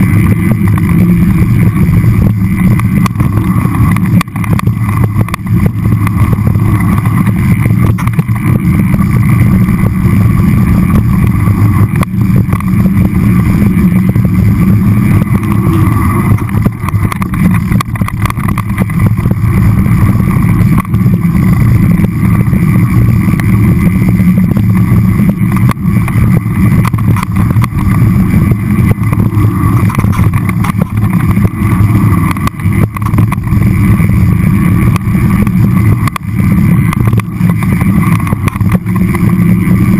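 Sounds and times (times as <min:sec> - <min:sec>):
bike rattles and knocks: 0:00.0 - 0:39.9
wind and trail rumble: 0:00.0 - 0:39.9.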